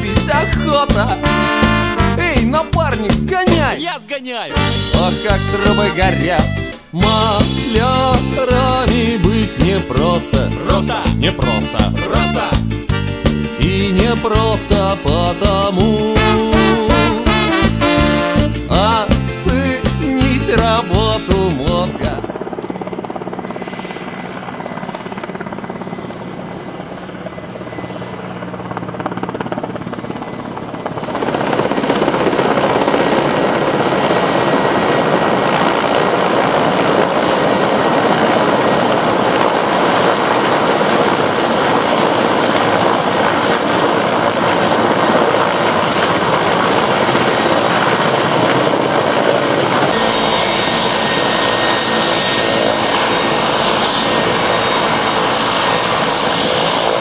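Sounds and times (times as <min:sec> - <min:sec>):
helicopter rotor and engines: 0:00.0 - 0:57.0.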